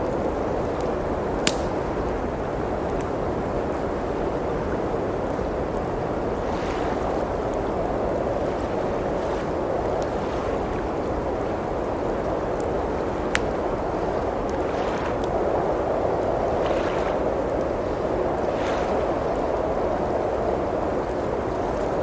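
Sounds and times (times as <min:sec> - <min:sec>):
blizzard wind rushing: 0:00.0 - 0:22.0
wood fire crackling: 0:00.0 - 0:22.0.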